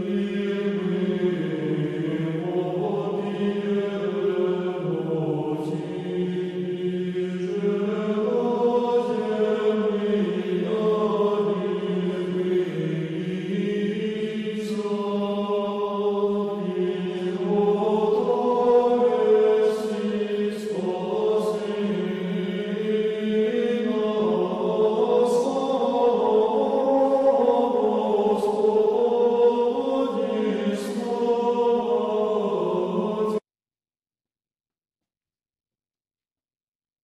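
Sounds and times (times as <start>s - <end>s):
voices chanting in harmony: 0.0s - 33.4s.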